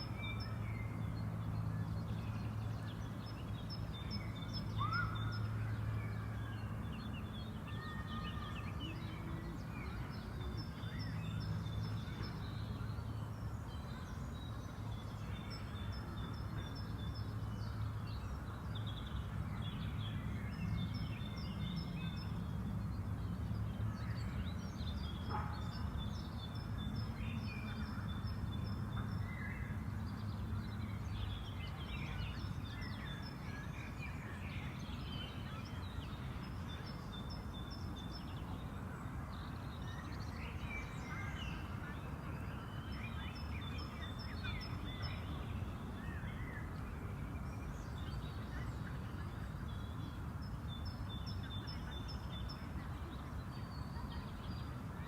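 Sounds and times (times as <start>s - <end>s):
birds singing and calling: 0.0s - 55.0s.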